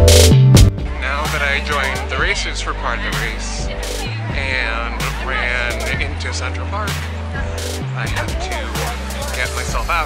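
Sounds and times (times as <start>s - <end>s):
regular percussive beat: 0.0s - 2.2s, 3.1s - 6.2s, 6.9s - 10.0s
strong steady bass line: 0.0s - 10.0s.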